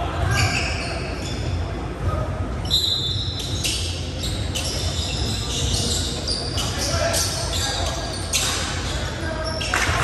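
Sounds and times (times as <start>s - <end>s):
sneakers squeaking on hardwood: 0.2s - 10.0s.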